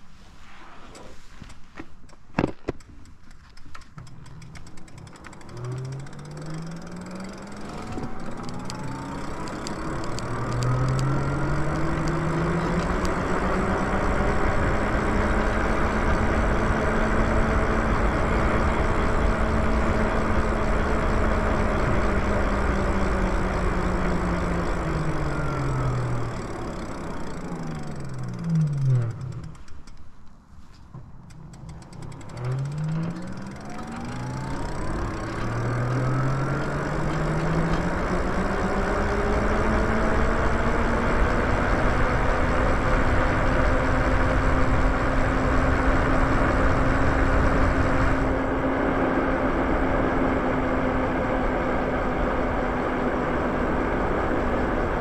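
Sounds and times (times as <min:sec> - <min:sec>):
electric motor whining: 0:04.0 - 0:30.0, 0:31.3 - 0:54.9.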